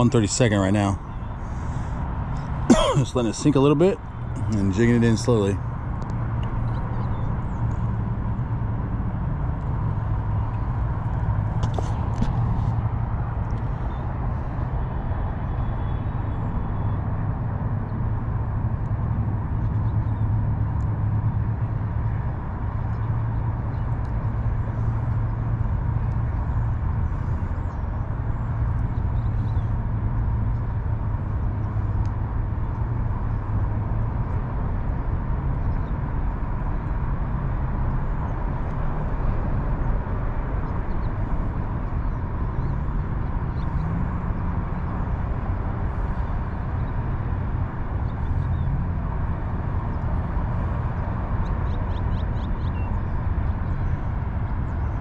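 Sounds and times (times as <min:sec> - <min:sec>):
low rumble of road traffic: 0:00.0 - 0:55.0.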